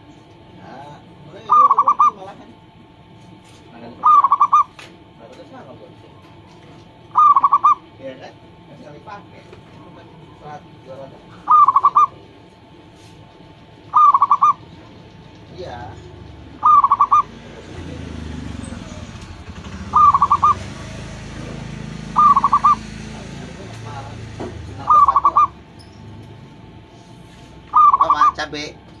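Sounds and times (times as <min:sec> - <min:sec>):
dove cooing: 0:00.0 - 0:03.1, 0:03.7 - 0:28.7.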